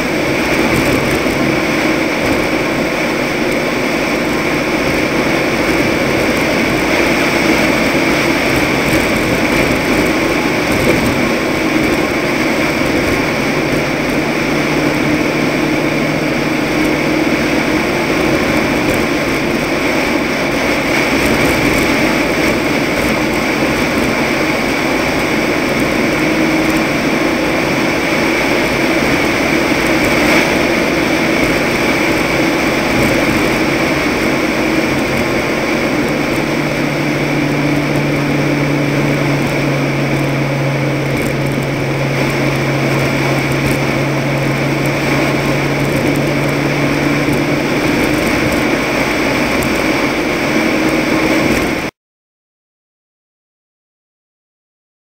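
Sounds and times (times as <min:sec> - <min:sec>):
road and wind noise: 0:00.0 - 0:51.9
truck engine: 0:00.0 - 0:51.9.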